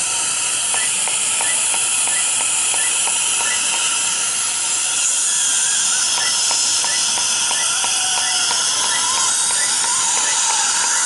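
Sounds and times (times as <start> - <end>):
laser unit hissing: 0.0 - 11.0.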